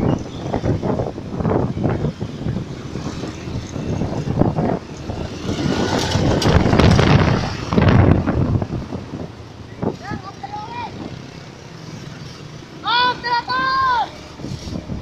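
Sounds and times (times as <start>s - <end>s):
bus passing: 0.0s - 15.0s.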